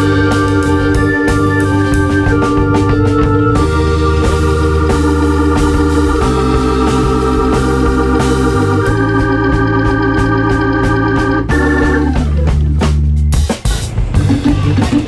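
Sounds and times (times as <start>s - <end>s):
electric organ playing chords: 0.0s - 13.6s
pulsing bass line: 0.0s - 15.0s.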